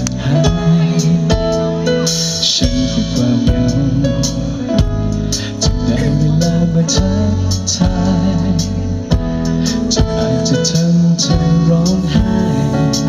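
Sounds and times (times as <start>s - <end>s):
live band playing: 0.0s - 13.0s
man singing into a microphone: 0.0s - 13.0s.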